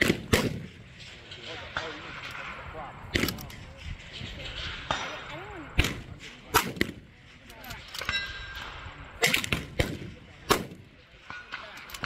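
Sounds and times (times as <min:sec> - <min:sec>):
rifle shots: 0:00.0 - 0:12.0.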